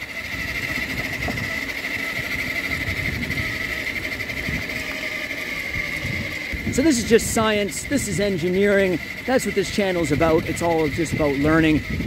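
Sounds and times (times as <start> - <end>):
electric motor whining: 0.0 - 12.0
wind and tyres rumbling on road: 0.0 - 12.0.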